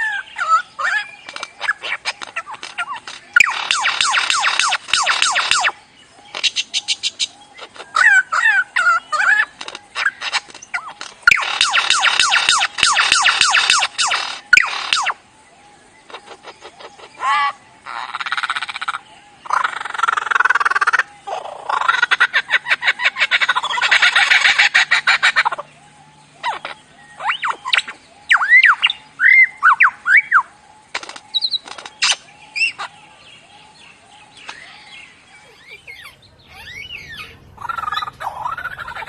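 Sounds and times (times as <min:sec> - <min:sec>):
lyrebird singing: 0:00.0 - 0:39.0.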